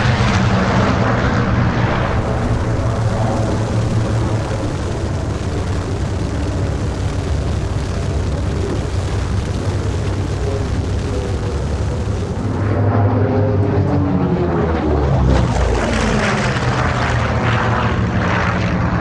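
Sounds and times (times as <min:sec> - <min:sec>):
aircraft piston engines droning: 0:00.0 - 0:19.0.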